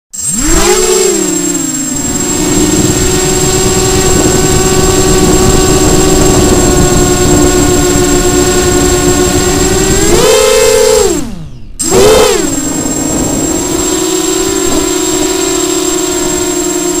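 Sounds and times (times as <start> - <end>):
quadcopter motors buzzing whine: 0.1 - 17.0.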